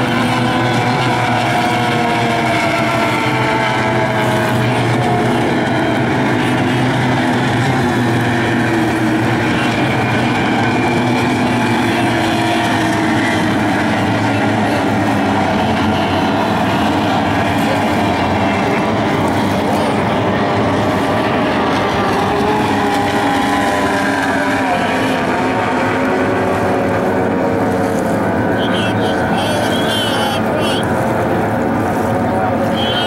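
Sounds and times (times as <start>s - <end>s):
outboard motors speeding past: 0.0s - 33.0s.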